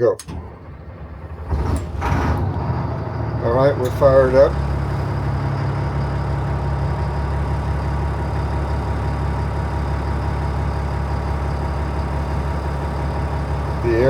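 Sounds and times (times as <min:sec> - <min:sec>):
truck diesel engine idling: 0:00.0 - 0:14.0.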